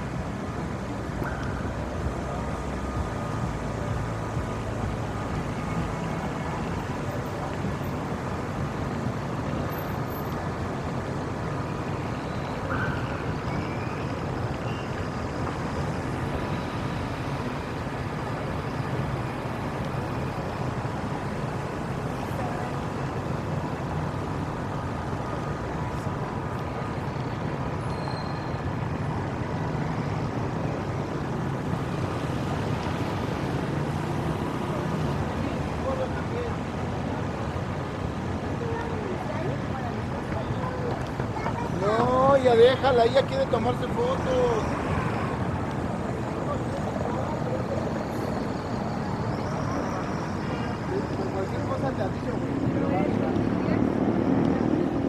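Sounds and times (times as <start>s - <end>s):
road traffic noise: 0.0s - 55.0s.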